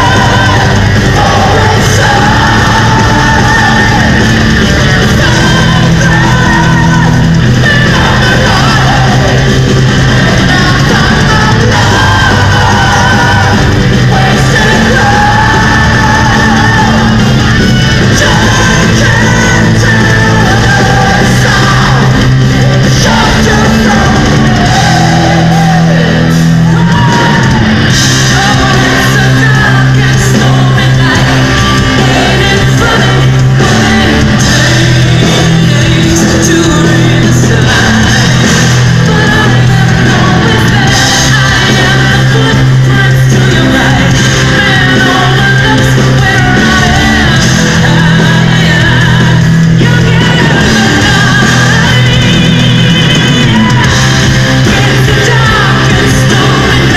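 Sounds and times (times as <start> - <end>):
lead vocals singing and shouting: 0.0 - 56.9
live metal band playing: 0.0 - 56.9.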